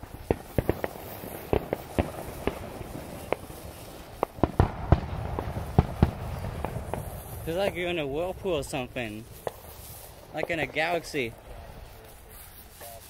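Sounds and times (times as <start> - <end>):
hiss of sparks: 0.0 - 13.0
sharp crackling pops: 0.0 - 13.0.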